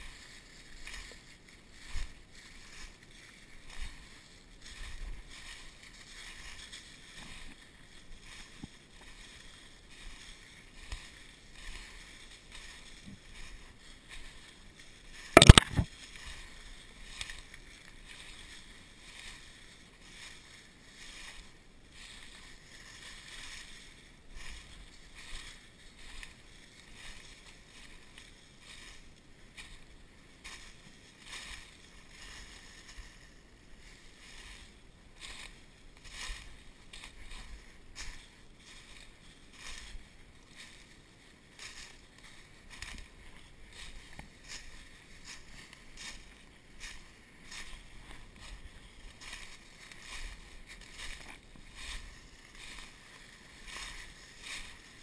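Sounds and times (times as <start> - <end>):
footsteps crunching through dry leaves: 0.0 - 55.0.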